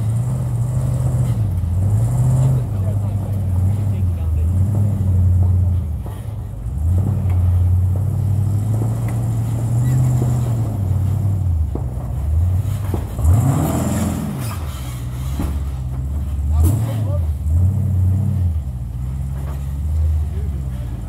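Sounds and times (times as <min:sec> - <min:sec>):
off-road vehicle engine at low revs: 0:00.0 - 0:21.0.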